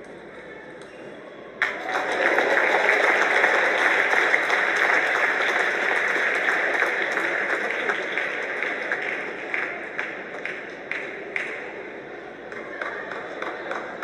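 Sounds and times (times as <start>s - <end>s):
spectators clapping: 1.6s - 14.0s.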